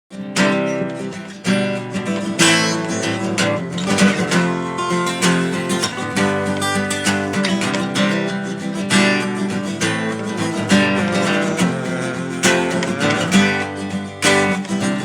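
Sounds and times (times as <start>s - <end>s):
acoustic guitar strumming: 0.1s - 15.0s.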